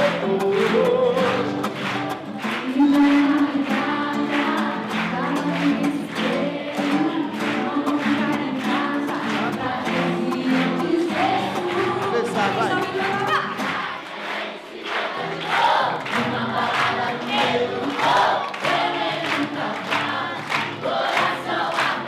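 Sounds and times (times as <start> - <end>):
acoustic guitar: 0.0 - 22.0
people singing: 0.0 - 22.0.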